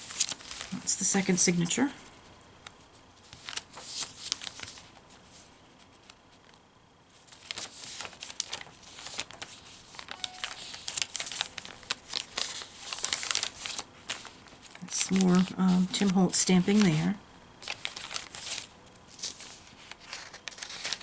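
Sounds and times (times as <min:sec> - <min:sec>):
paper pages rustling: 0:00.0 - 0:01.4, 0:02.7 - 0:21.0.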